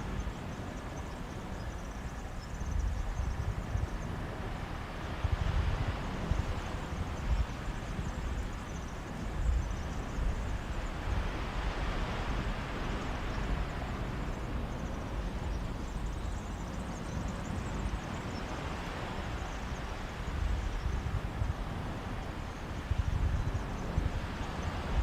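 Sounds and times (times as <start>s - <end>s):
sea waves washing on beach: 0.0s - 25.0s
wind buffeting microphone: 0.0s - 25.0s.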